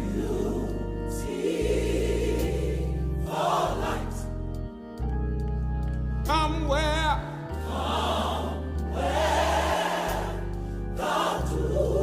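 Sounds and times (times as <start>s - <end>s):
gospel choir singing: 0.0s - 5.0s, 7.3s - 12.0s
sustained organ chords: 0.0s - 12.0s.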